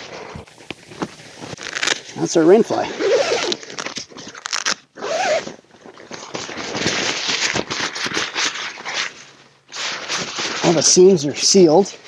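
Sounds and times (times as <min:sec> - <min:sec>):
tent zipper rasping: 0:00.0 - 0:11.5
fabric rustling: 0:00.0 - 0:12.0.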